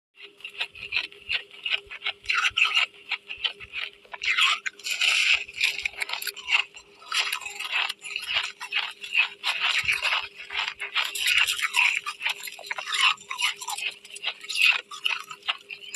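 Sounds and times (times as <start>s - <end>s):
ice being chewed: 0.2s - 15.9s.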